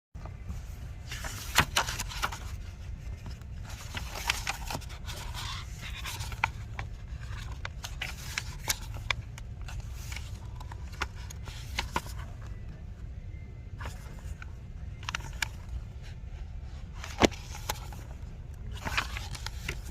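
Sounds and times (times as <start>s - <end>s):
steady low rumble: 0.2s - 19.9s.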